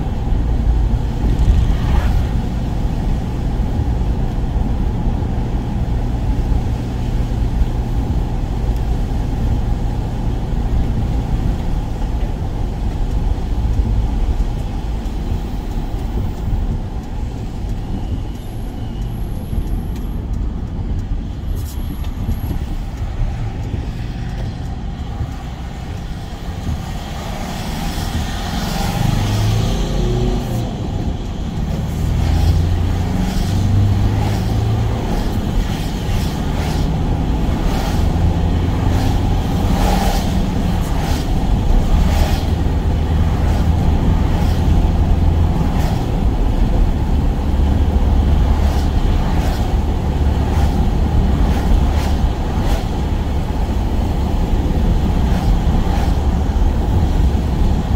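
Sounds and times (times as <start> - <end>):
van engine and road rumble: 0.0 - 57.9.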